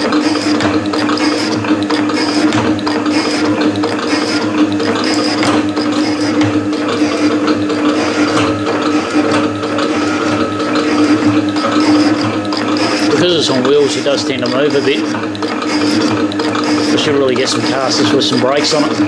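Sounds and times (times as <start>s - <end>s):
metal shaper running: 0.0s - 19.0s
rhythmic clicking: 0.0s - 19.0s.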